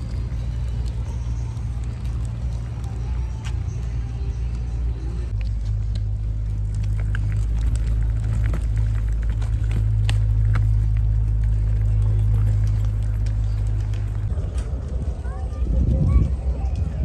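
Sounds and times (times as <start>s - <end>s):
small clicks and rattles: 0.0s - 15.1s
wagon wheels rumbling on path: 0.0s - 17.0s.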